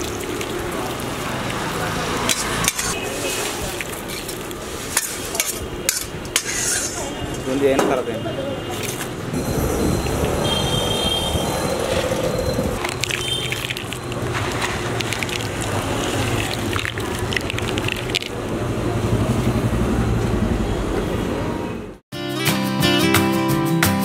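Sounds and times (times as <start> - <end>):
low traffic hum: 0.0 - 22.0.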